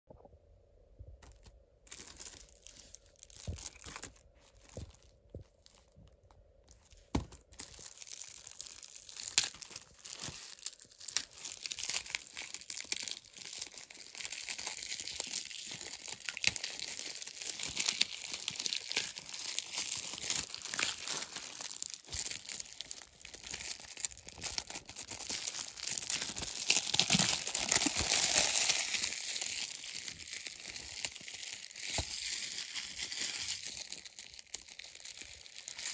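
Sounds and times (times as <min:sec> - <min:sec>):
plastic shrink-wrap crinkling and tearing: 0:01.2 - 0:35.9.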